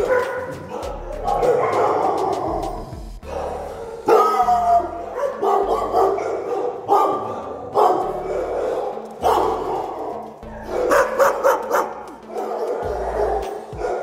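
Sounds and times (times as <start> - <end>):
dogs barking: 0.0 - 14.0.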